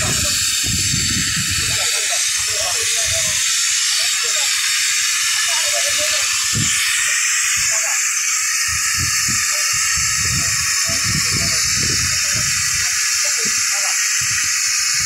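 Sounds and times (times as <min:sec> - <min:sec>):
muffled voices: 0:00.0 - 0:15.0
steady loud hiss: 0:00.0 - 0:15.0.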